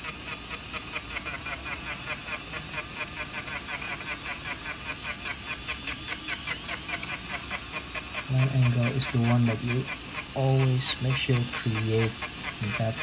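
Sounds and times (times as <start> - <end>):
dental handpiece hissing and ticking: 0.0 - 13.0.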